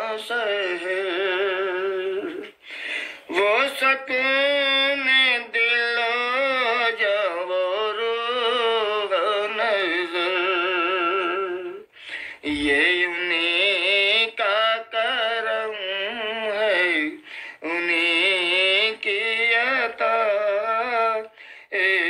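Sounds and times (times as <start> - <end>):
person singing devotional song: 0.0 - 22.0.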